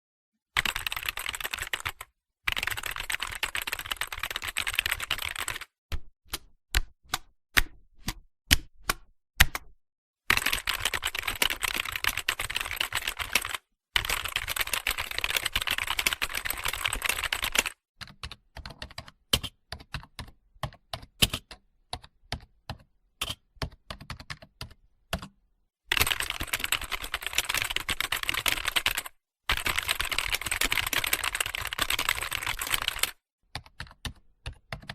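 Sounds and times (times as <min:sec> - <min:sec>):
keyboard typing: 0:00.6 - 0:05.7, 0:10.3 - 0:25.3, 0:25.9 - 0:34.9.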